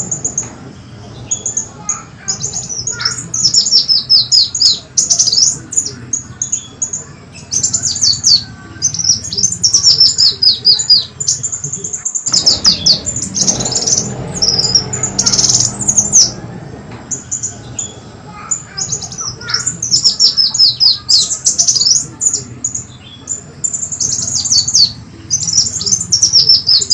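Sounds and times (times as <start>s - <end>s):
low rumbling noise: 0.0s - 26.9s
scattered chirps: 0.0s - 26.9s.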